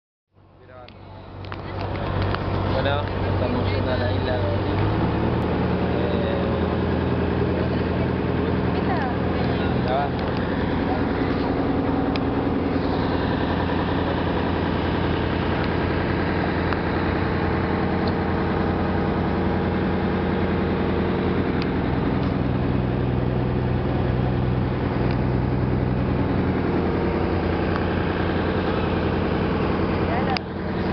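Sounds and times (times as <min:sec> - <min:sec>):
boat engine humming: 0:00.4 - 0:30.9.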